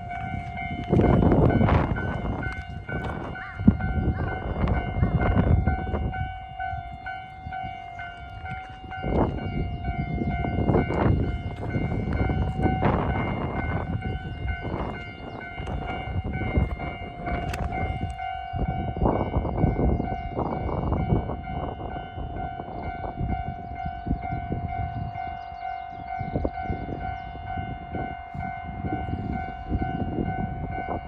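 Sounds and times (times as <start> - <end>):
diesel railcar rumbling: 0.0 - 31.0
level crossing alarm ringing: 0.0 - 31.0.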